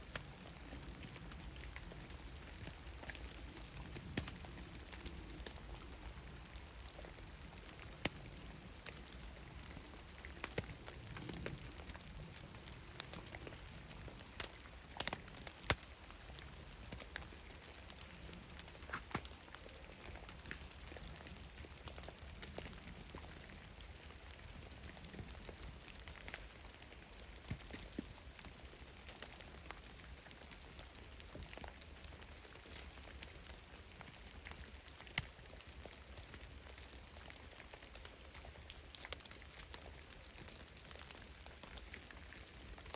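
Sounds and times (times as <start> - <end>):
faint steady hiss: 0.0 - 42.9.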